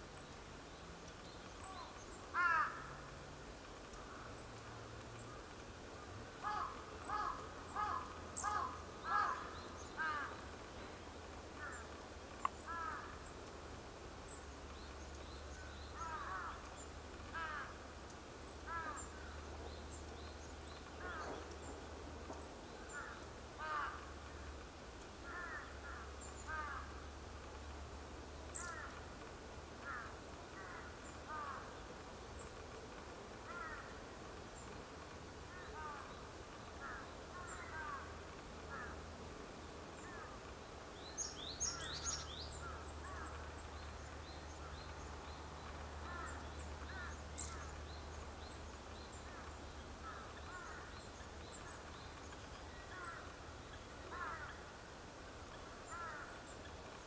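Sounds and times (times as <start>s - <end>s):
birds calling: 1.1s - 3.0s, 3.8s - 13.6s, 14.3s - 27.2s, 28.5s - 29.2s, 29.8s - 39.0s, 39.9s - 57.0s.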